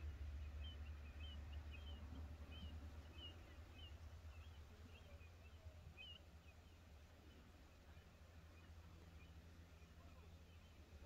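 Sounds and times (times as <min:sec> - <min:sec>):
bird chirps: 0:00.0 - 0:10.9
low steady rumble: 0:00.0 - 0:11.0.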